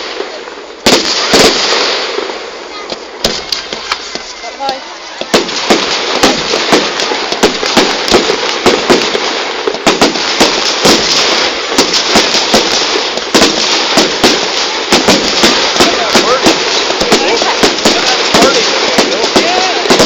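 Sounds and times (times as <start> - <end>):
continuous hiss: 0.0 - 20.0
fireworks bangs and crackles: 0.0 - 20.0.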